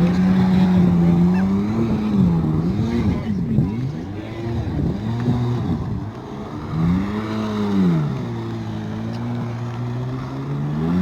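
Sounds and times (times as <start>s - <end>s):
engine revving and idling: 0.0s - 11.0s.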